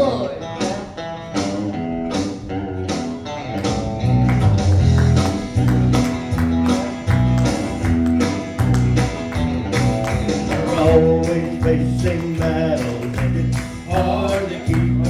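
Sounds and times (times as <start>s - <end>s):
heavy bass notes: 0.0s - 15.0s
strummed guitar: 0.0s - 15.0s.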